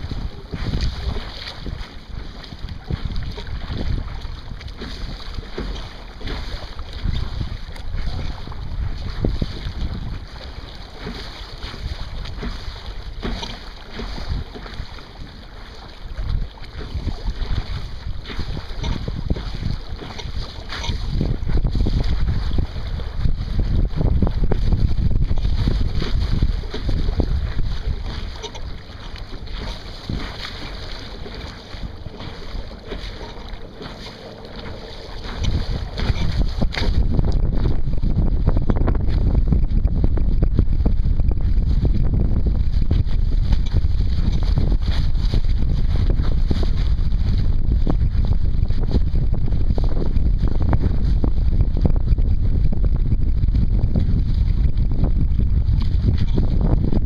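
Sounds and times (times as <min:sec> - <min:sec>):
water rushing along a hull: 0:00.0 - 0:57.0
wind buffeting the microphone: 0:00.0 - 0:57.0.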